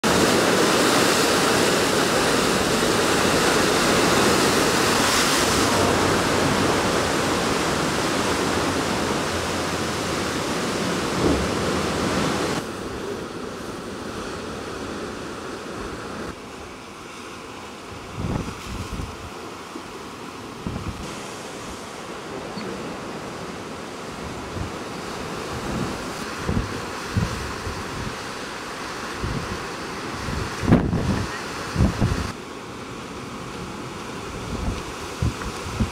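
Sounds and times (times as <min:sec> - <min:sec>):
sea surf rushing through rocks: 0:00.0 - 0:35.9.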